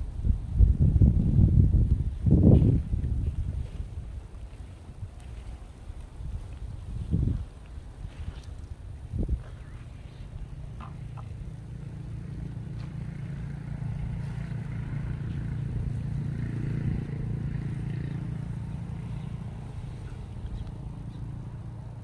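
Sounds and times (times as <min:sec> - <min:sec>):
small engine passing: 0:00.0 - 0:22.0.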